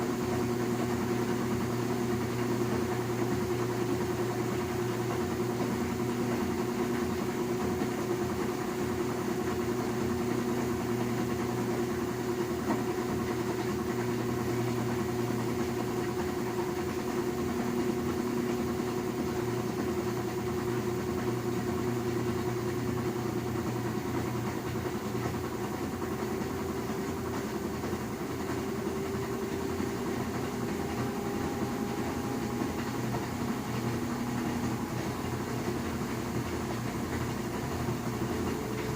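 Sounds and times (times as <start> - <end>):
washing machine hum and whine: 0.0 - 38.9.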